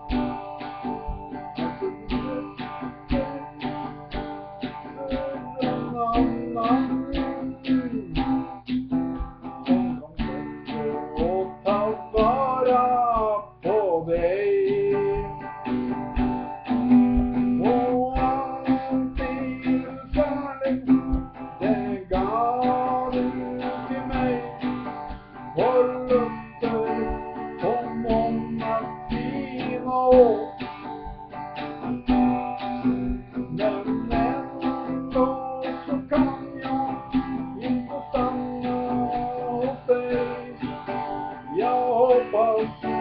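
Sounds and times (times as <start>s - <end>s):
acoustic guitar strumming: 0.0s - 43.0s
man singing: 0.0s - 43.0s.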